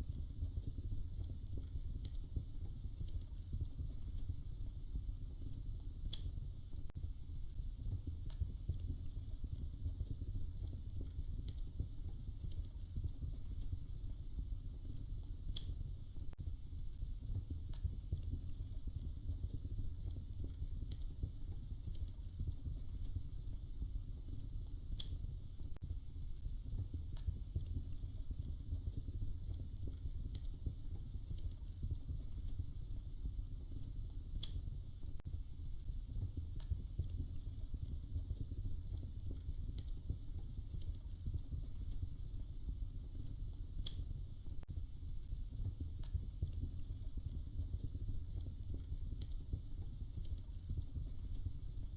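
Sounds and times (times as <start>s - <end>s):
low fire rumble: 0.0s - 51.9s
wood fire crackling: 0.0s - 51.9s.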